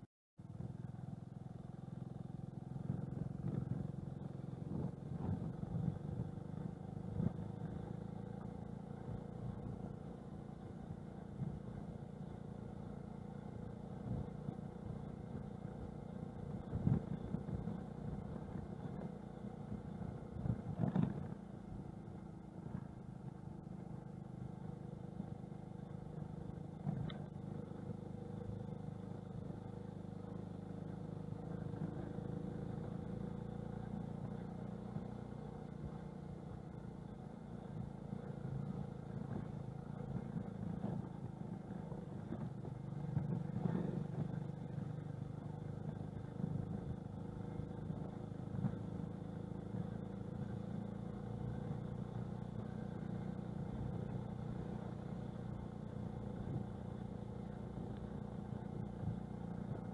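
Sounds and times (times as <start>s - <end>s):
moped engine running: 0.4s - 59.9s.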